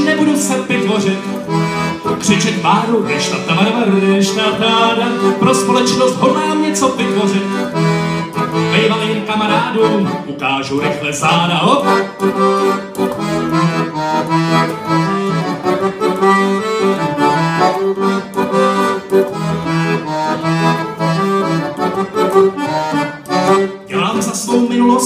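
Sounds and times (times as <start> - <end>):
solo accordion playing: 0.0 - 25.0.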